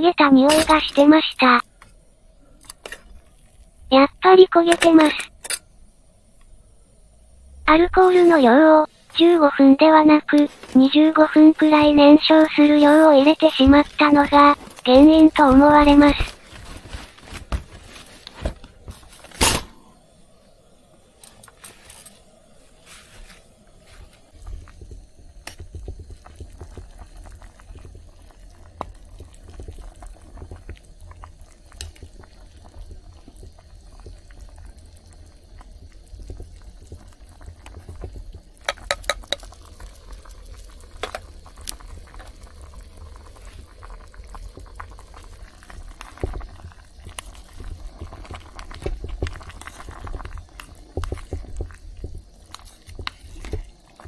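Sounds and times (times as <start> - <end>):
pot bubbling: 0.0 - 54.0.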